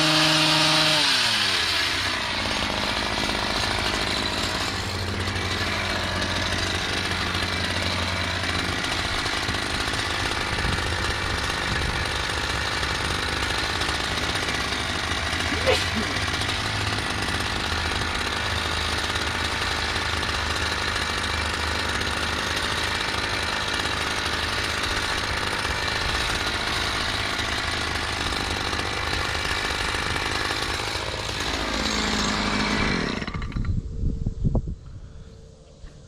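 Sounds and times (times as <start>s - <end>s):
hedge trimmer engine running: 0.0s - 33.9s.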